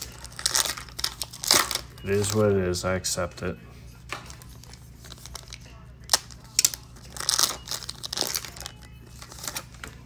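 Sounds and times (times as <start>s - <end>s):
foil wrapper crinkling and tearing: 0.0s - 2.4s, 4.3s - 10.0s.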